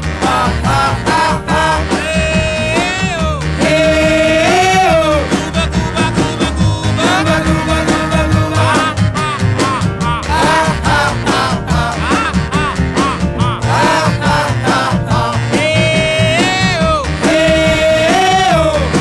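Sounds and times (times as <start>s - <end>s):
song with singing over guitar: 0.0s - 19.0s.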